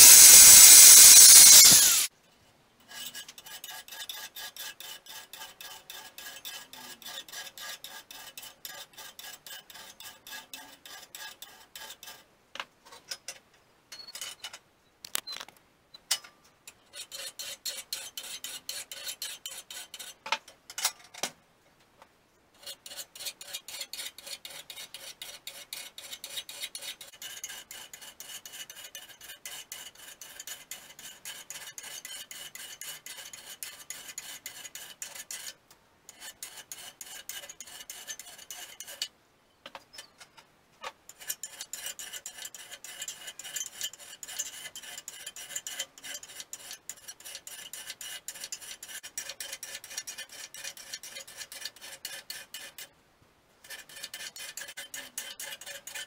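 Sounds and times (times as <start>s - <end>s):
filing strokes on steel: 0.0s - 2.1s, 2.8s - 12.3s, 16.7s - 20.3s, 22.6s - 39.1s, 41.1s - 53.0s, 53.6s - 56.0s.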